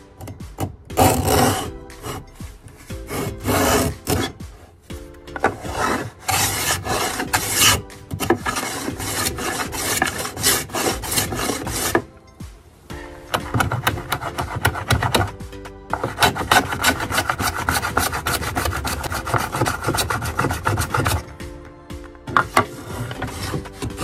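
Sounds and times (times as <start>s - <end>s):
soft background music: 0.0s - 24.0s
hand plane shaving wood: 0.6s - 2.3s, 2.9s - 4.4s, 5.4s - 12.1s, 13.3s - 21.3s, 22.3s - 24.0s.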